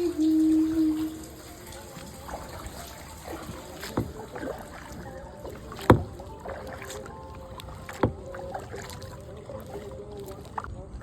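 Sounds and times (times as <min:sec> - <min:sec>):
faint water wash: 0:00.0 - 0:11.0
paddle knocks on kayak: 0:01.7 - 0:10.7.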